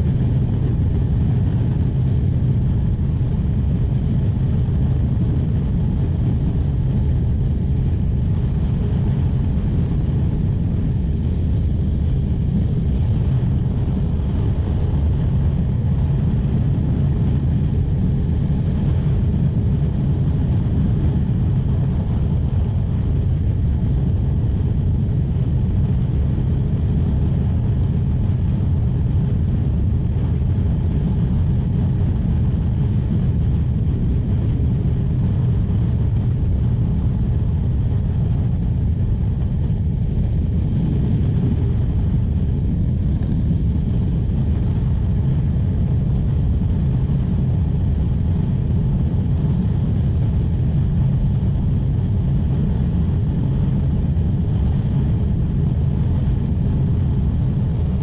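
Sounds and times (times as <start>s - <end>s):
motorcycle engine drone: 0.0s - 58.0s
wind rush on microphone: 0.0s - 58.0s.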